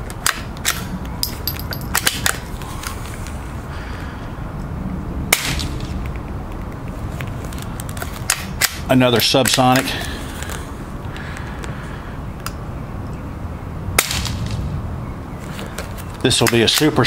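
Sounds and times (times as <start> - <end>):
steady low rumble: 0.6 - 15.4.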